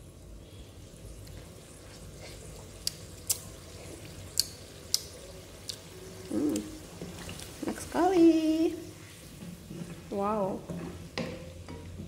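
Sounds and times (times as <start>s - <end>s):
sauce simmering: 0.0s - 10.1s.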